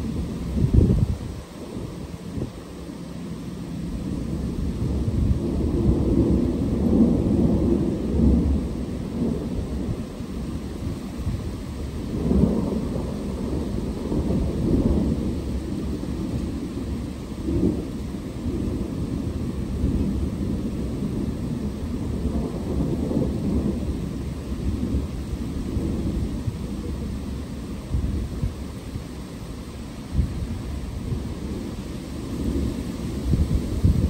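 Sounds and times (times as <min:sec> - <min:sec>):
steady rain: 0:00.0 - 0:34.0
thunder rumbling: 0:00.0 - 0:34.0.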